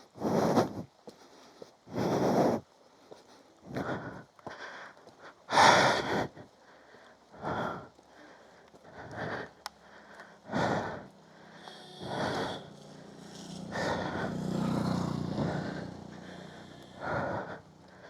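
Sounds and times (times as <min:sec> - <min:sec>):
man breathing heavily: 0:00.0 - 0:18.0.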